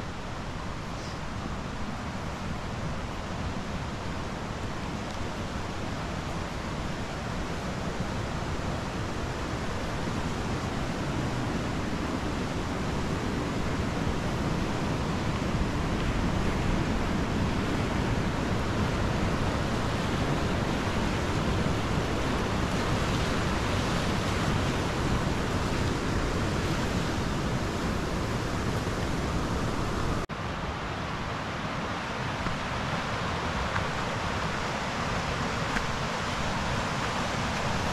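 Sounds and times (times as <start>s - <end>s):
river rushing: 0.0s - 37.9s.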